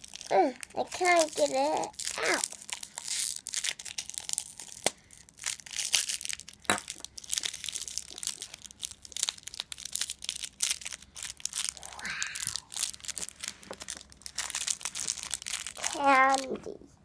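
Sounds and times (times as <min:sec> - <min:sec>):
plastic packaging crinkling: 0:00.0 - 0:16.8.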